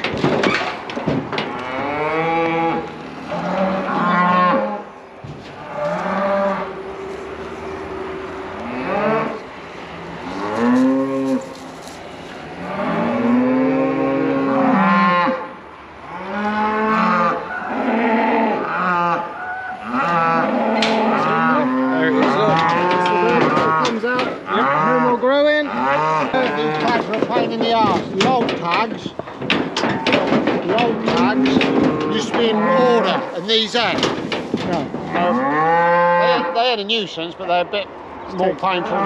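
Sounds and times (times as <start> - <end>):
cattle mooing: 1.3 - 4.9, 5.5 - 11.8, 12.4 - 28.6, 29.5 - 34.0, 34.6 - 36.8, 38.4 - 39.0.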